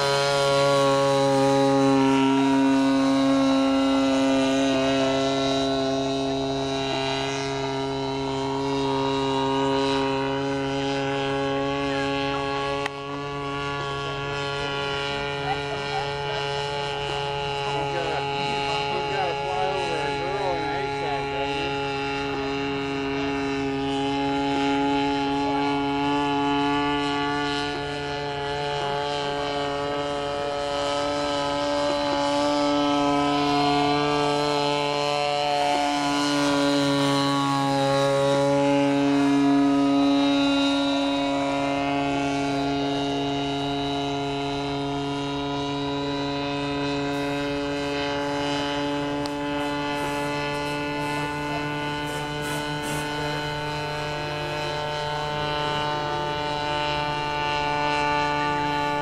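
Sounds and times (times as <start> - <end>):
model airplane engine droning: 0.0 - 59.0.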